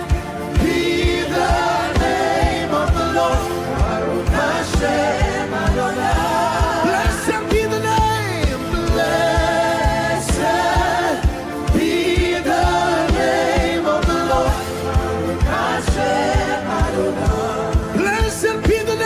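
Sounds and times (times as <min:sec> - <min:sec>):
band playing: 0:00.0 - 0:19.0.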